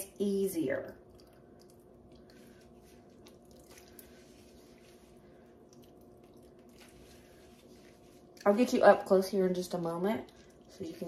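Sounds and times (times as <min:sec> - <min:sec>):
low steady hum: 0:00.0 - 0:11.0
whey dripping and squishing: 0:00.7 - 0:11.0.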